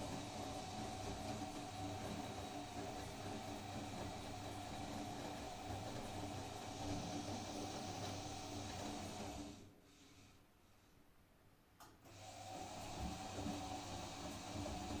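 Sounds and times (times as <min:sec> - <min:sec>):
washing machine motor whining: 0:00.0 - 0:09.7, 0:12.1 - 0:15.0.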